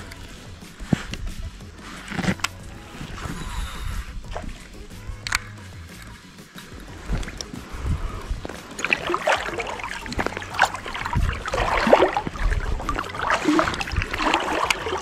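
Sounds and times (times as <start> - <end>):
water splashing against float tube: 0.0 - 15.0.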